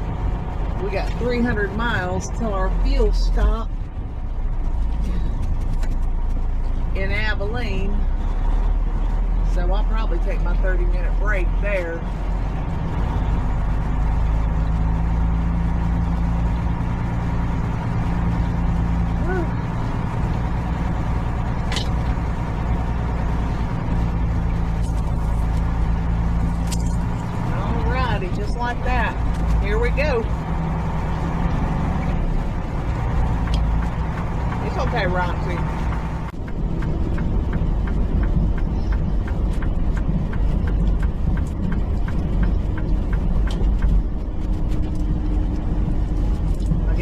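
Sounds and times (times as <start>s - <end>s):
road noise: 0.0s - 47.0s
truck engine drone: 0.0s - 47.0s.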